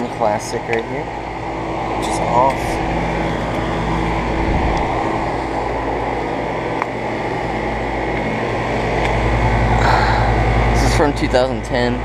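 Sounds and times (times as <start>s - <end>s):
compressor hum: 0.0s - 12.0s
condenser fans rushing: 0.0s - 12.0s.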